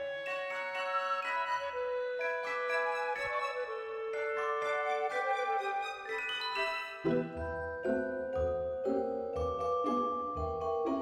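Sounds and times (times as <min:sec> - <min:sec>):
glockenspiel-like bell melody: 0:00.2 - 0:11.0.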